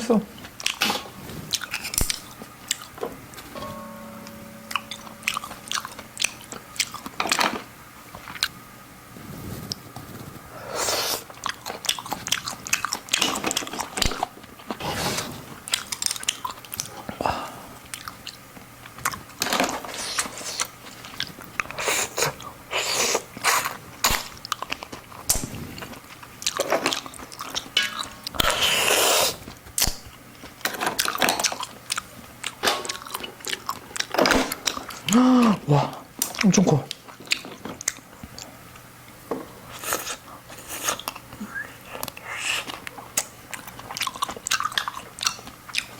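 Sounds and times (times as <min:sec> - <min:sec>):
person chewing shellfish: 0:00.5 - 0:03.0, 0:04.7 - 0:08.6, 0:10.8 - 0:38.9, 0:39.6 - 0:45.9.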